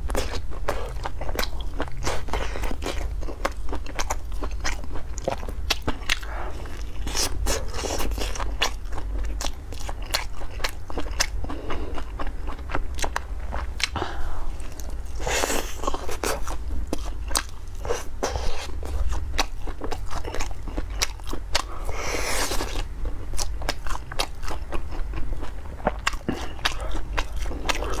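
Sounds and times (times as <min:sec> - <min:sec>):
crunching and chewing food: 0:00.0 - 0:28.0
steady low hum: 0:00.0 - 0:28.0.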